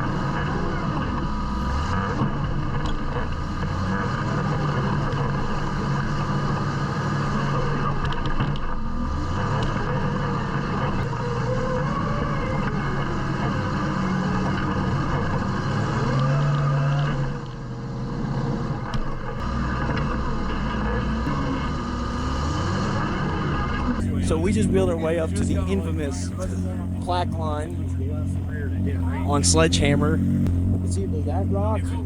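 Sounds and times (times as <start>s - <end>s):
engine revving under load: 0.0s - 32.0s.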